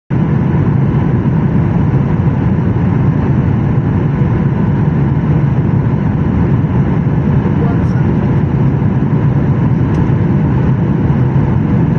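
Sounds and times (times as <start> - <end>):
airliner engine and airflow rumble: 0.1 - 11.9.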